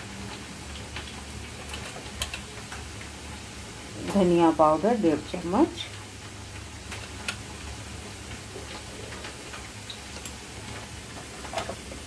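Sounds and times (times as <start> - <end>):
potato wedges sizzling in oil: 0.0 - 12.0.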